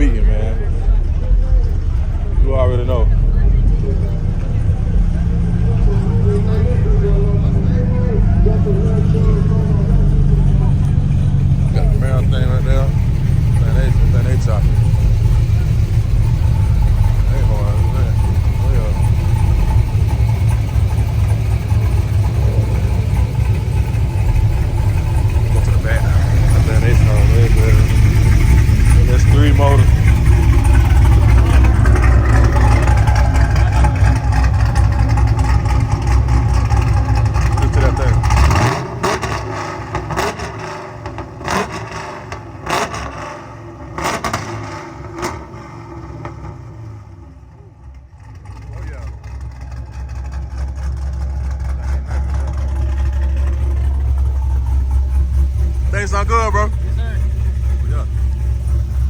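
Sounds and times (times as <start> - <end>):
short sharp engine bursts: 0.0 - 46.0, 48.2 - 59.0
car engine idling: 0.0 - 59.0.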